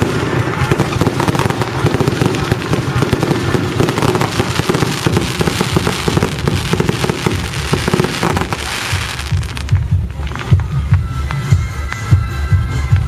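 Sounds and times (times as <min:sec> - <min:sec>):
fireworks crackling bangs: 0:00.0 - 0:11.5
low fireworks rumble: 0:00.0 - 0:13.0.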